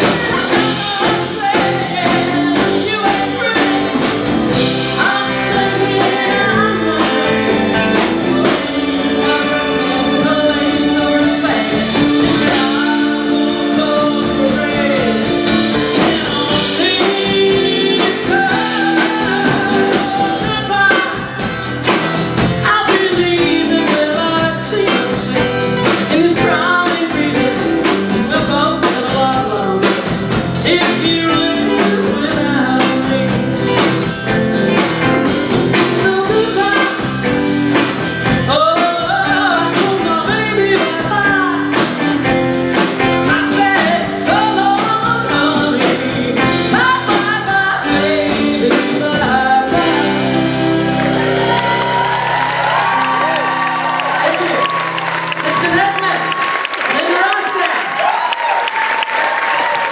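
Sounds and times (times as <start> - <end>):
person singing: 0.0 - 56.3
guitar: 0.0 - 58.6
live pop-rock band: 0.0 - 59.9.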